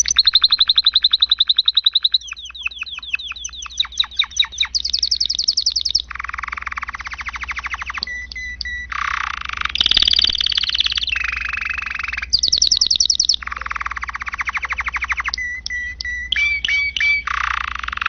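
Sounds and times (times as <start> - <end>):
canary singing rapid trills: 0.0 - 18.0.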